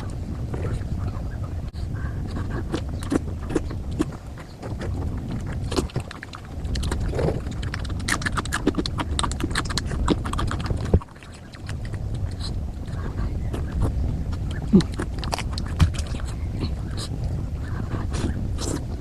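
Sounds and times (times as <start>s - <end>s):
mouth clicks: 0.0s - 19.0s
wet chewing: 1.9s - 19.0s
lip smacks: 2.2s - 19.0s.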